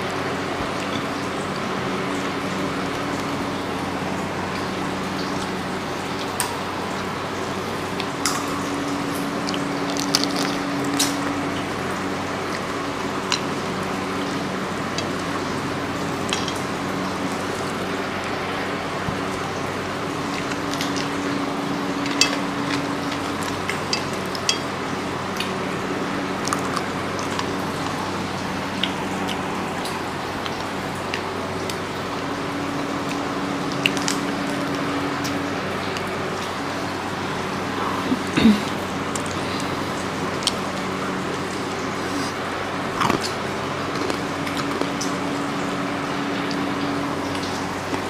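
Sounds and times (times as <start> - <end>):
fingers working rice and chewing: 0.0 - 48.0
steady background hum: 0.0 - 48.0.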